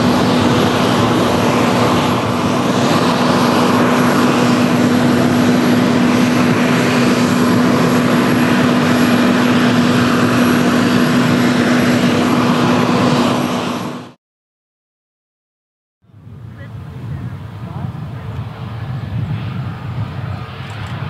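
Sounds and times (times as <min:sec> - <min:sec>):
aircraft rushing hum: 0:00.0 - 0:14.2, 0:16.0 - 0:21.0
constant low drone: 0:00.0 - 0:14.2, 0:16.0 - 0:21.0.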